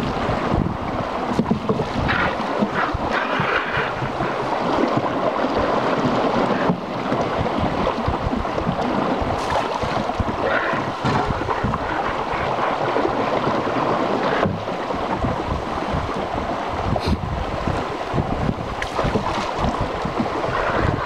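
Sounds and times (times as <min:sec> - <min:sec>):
river water rushing: 0:00.0 - 0:21.0
wind gusting on microphone: 0:00.0 - 0:21.0.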